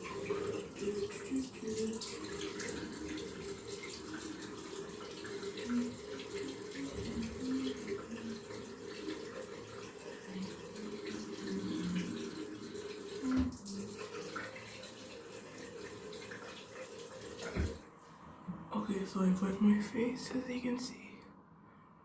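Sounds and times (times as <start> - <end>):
sink tap running: 0.0 - 17.8.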